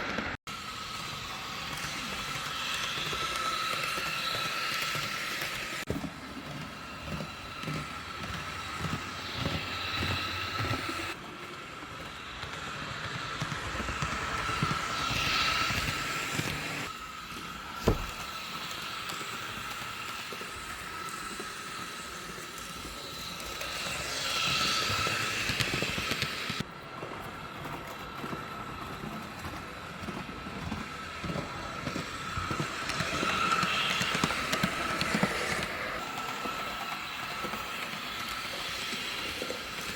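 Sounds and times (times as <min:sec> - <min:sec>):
model train wheels on track: 0:00.0 - 0:39.9
model train whine: 0:00.0 - 0:39.9.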